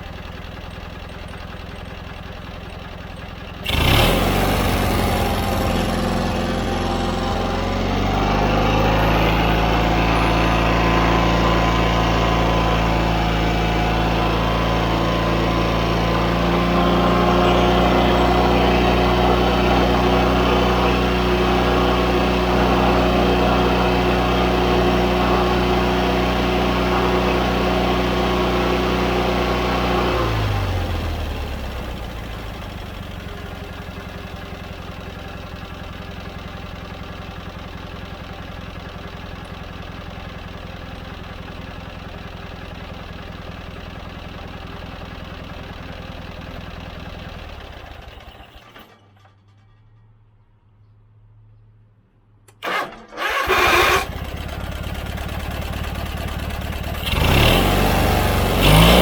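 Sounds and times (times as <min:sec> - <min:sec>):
riding mower engine: 0:00.0 - 0:50.4, 0:52.5 - 0:59.0.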